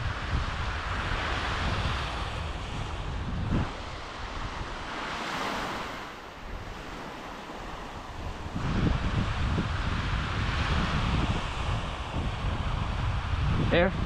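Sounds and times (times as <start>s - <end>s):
small surf breaking on beach: 0.0s - 13.8s
wind buffeting microphone: 0.0s - 14.0s.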